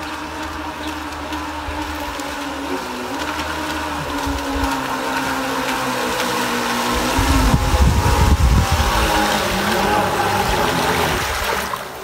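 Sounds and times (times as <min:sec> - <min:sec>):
boat motors whining: 0:00.0 - 0:12.0.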